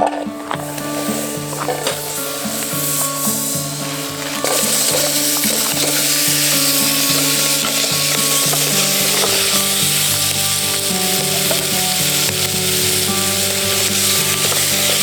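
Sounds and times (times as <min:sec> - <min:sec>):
background music of held notes: 0:00.0 - 0:15.0
food sizzling in a pan: 0:00.0 - 0:15.0.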